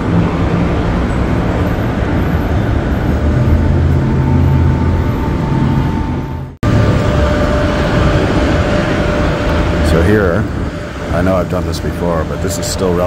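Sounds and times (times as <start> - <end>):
city street traffic: 0.0 - 13.0
heavy vehicle engine hum: 0.0 - 13.0.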